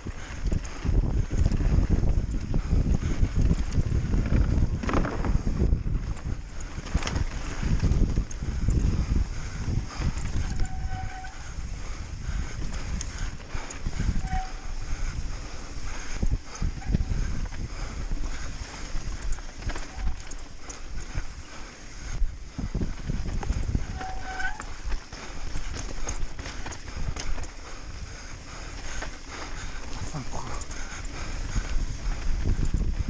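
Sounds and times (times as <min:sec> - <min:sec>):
bike frame and wheels rattling: 0:00.0 - 0:33.0
wind noise on microphone: 0:00.0 - 0:33.0.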